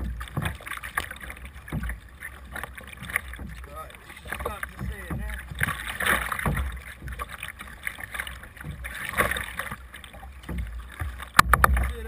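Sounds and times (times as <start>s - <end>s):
kayak paddle splashing water: 0.0s - 12.0s.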